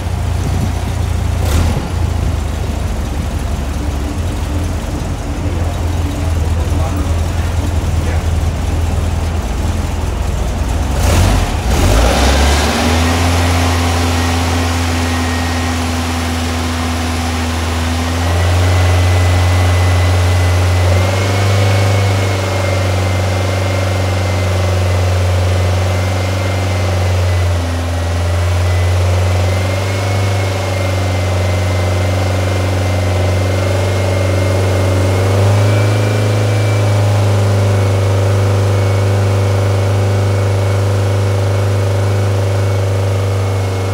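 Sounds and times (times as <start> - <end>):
engine idling roughly: 0.0 - 43.9.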